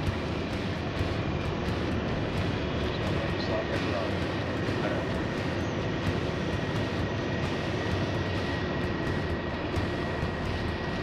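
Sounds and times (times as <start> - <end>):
boat engine rumbling drone: 0.0 - 11.0.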